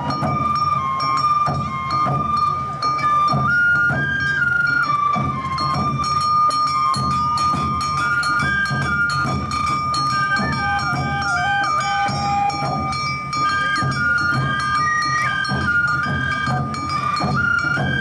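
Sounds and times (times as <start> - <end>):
bamboo flutes playing: 0.0 - 18.0
drums beating: 0.0 - 18.0
sharp percussion strikes: 0.0 - 18.0.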